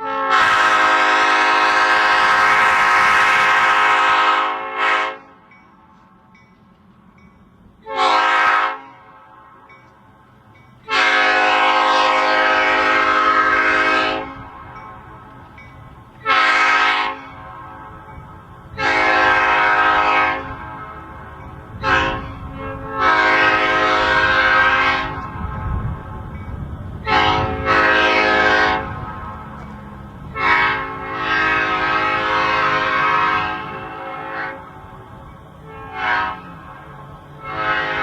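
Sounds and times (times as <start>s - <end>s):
locomotive air horn blasts: 0.0s - 5.5s, 7.8s - 9.7s, 10.8s - 15.6s, 16.2s - 26.3s, 27.0s - 35.0s, 35.6s - 38.0s.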